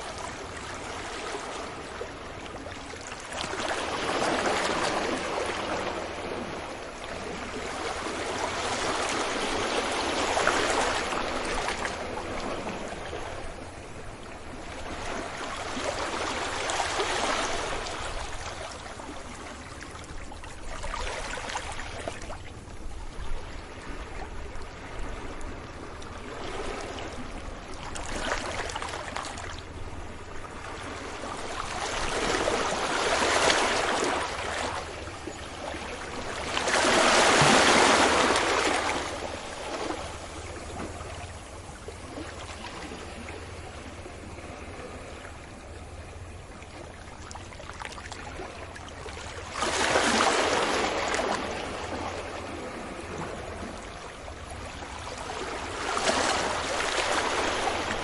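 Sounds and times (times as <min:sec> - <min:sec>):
ocean waves washing onto beach: 0:00.0 - 0:58.0.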